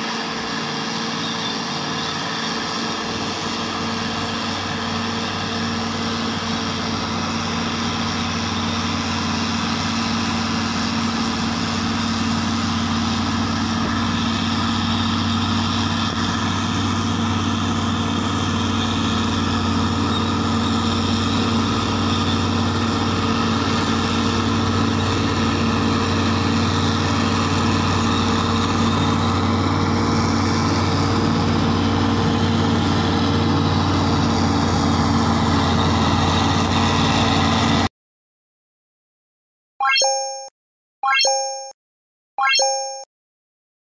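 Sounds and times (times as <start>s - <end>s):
bulldozer diesel engine running: 0.0s - 37.9s.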